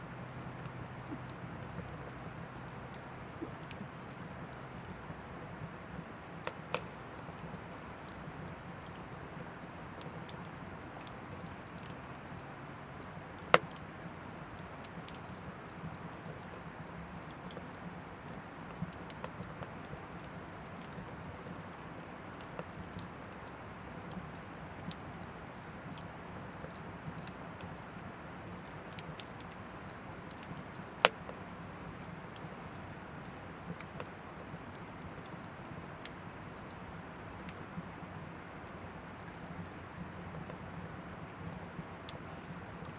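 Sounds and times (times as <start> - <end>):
fire hissing and crackling: 0.1 - 42.9.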